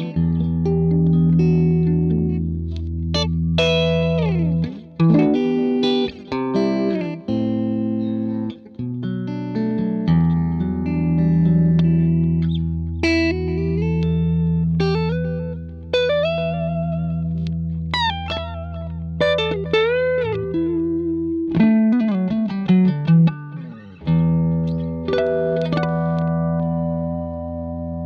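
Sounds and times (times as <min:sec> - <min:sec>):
electric guitar playing: 0:00.0 - 0:28.0.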